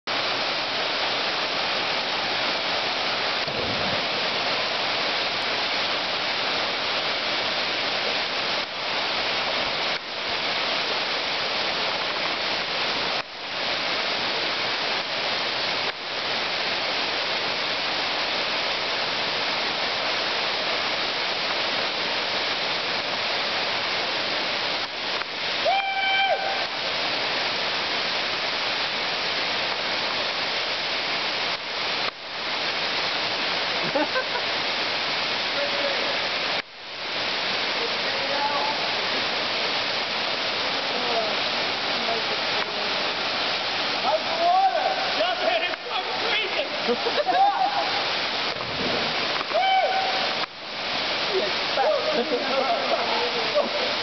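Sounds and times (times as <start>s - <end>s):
waterfall rushing: 0.1s - 54.0s.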